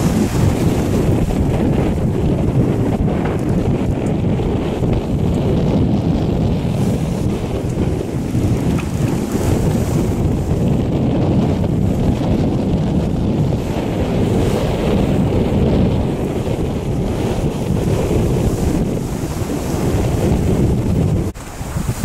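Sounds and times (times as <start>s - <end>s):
rush of waves: 0.0s - 22.0s
wind buffeting microphone: 0.0s - 22.0s.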